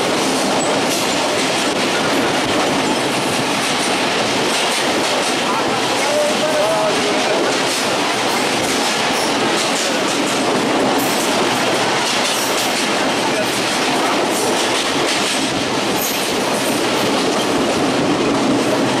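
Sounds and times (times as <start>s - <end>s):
train wheels rumbling and clattering: 0.0s - 19.0s.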